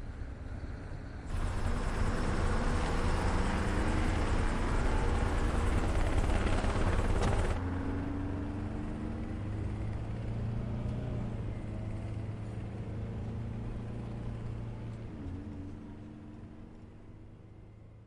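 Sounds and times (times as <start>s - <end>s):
low vehicle engine rumble: 0.0s - 18.0s.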